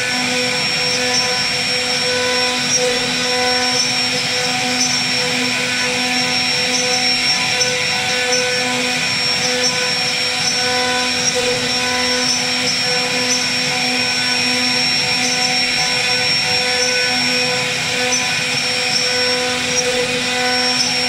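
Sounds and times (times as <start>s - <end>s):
router spindle whining: 0.0s - 21.0s
bit cutting wood hiss: 0.1s - 21.0s.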